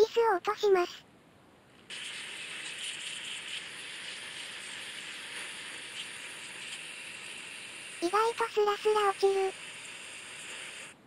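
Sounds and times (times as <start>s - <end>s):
aerosol spray hissing: 1.9s - 11.0s.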